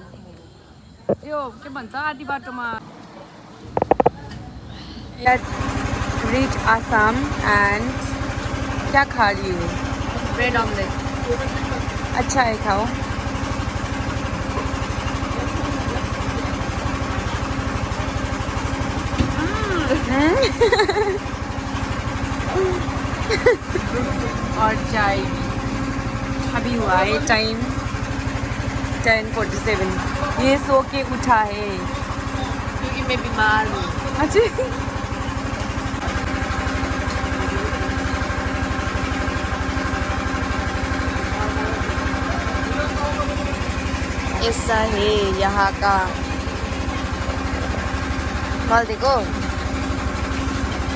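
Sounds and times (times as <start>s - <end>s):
engine idling: 3.6s - 50.9s.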